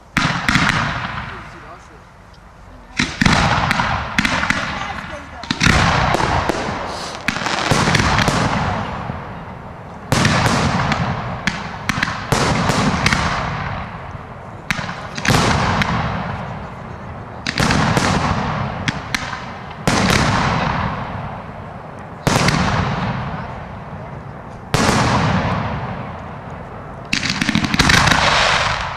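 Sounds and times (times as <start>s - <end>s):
firework shells booming: 0.0s - 2.0s, 2.9s - 28.9s
sharp firework cracks: 0.0s - 2.0s, 2.9s - 28.9s.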